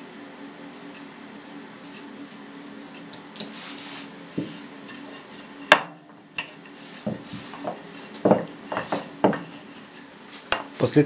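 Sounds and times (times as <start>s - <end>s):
steady low hum: 0.0s - 11.0s
hands rubbing dough: 0.8s - 5.6s, 6.6s - 11.0s.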